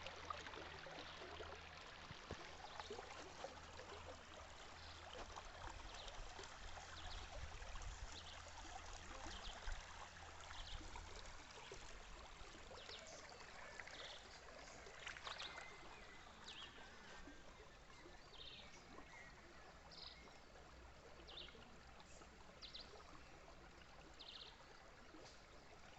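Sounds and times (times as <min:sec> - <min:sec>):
stream water trickling: 0:00.0 - 0:25.9.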